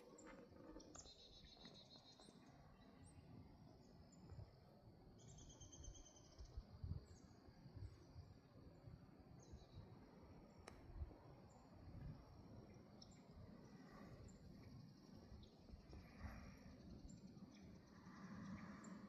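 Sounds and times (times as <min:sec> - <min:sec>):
faint bird chirps and trills: 0:00.0 - 0:19.0.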